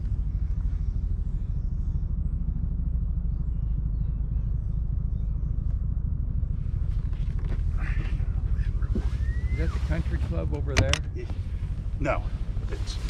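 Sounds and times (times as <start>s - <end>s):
boat engine rumble: 0.0s - 13.0s.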